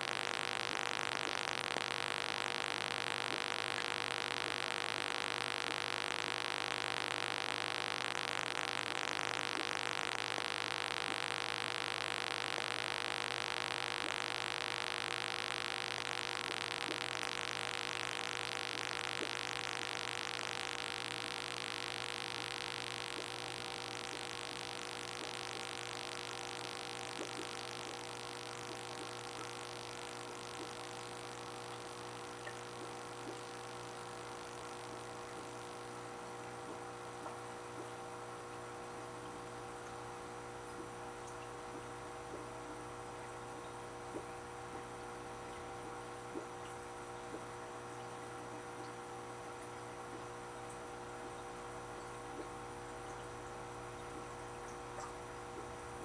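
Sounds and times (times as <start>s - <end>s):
aquarium equipment humming: 0.0s - 56.0s.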